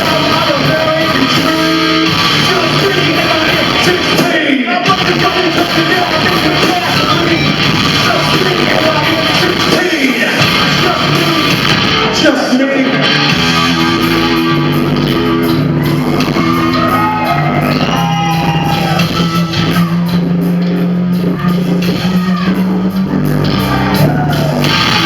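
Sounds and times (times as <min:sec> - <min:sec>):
electric guitar: 0:00.0 - 0:25.0
heavy rock band playing: 0:00.0 - 0:25.0
person singing: 0:00.0 - 0:25.0.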